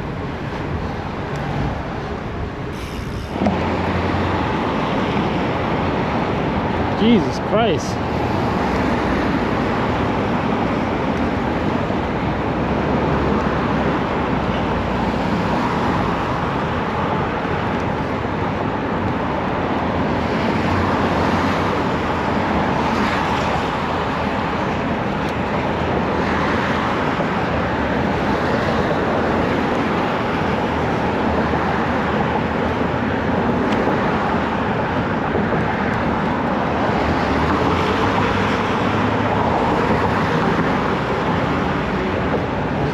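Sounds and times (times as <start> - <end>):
passing traffic: 0.0 - 42.9
road noise while cycling: 0.0 - 42.9.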